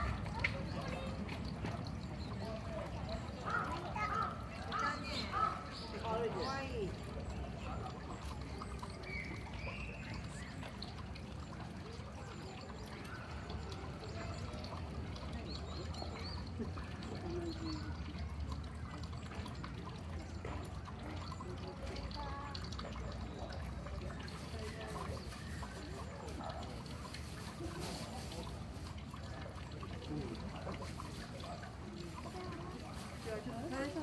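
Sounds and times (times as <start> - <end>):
faint voices: 0.0 - 34.0
trickling running water: 0.0 - 34.0.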